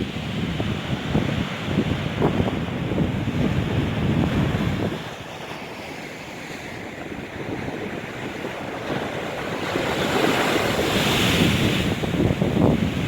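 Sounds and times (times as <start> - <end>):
storm waves breaking: 0.0 - 13.0
wind buffeting microphone: 0.0 - 13.0.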